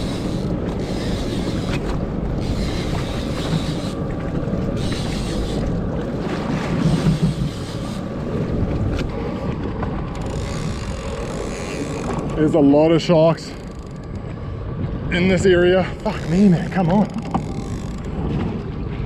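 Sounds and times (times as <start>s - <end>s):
water rumbling around boat: 0.0s - 19.0s
wind buffeting microphone: 0.0s - 19.0s.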